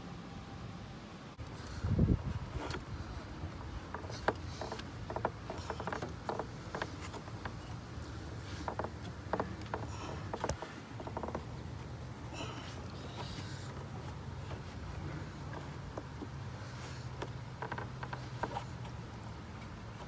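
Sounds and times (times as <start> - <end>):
rubber tube squeaking and clicking: 2.4 - 20.0.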